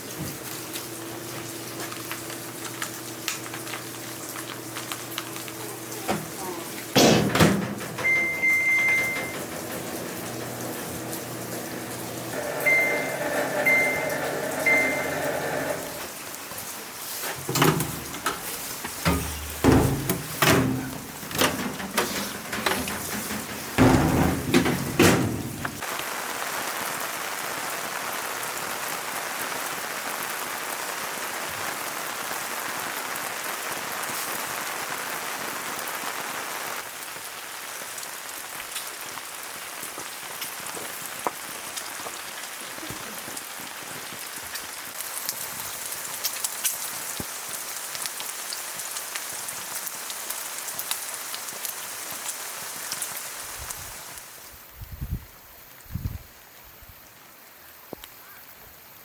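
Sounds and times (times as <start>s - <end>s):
steady rain falling: 0.0s - 7.0s, 7.6s - 54.7s.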